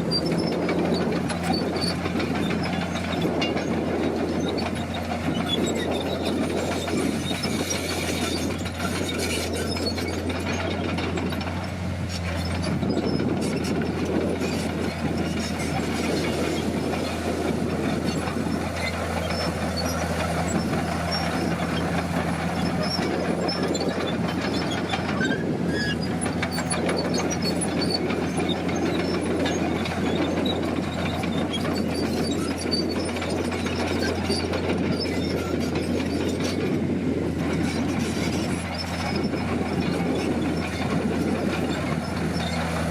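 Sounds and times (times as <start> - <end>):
diesel engine humming: 0.0 - 42.9.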